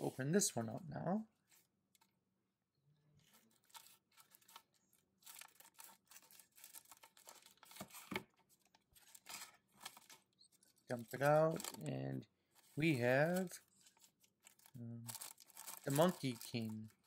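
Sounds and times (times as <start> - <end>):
plastic packet crinkling: 3.2 - 17.0.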